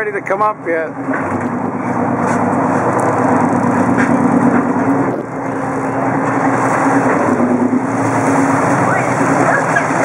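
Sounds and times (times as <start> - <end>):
boat engine humming: 0.0 - 10.0
water rushing: 0.2 - 10.0.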